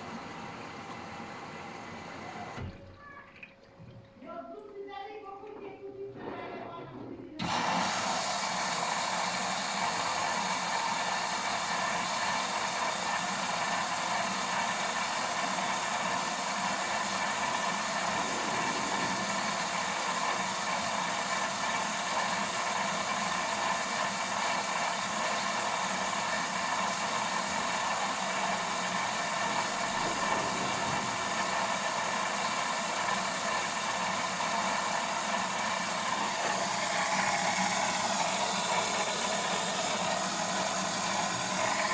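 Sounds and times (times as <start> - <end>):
washing machine running: 0.0 - 41.9.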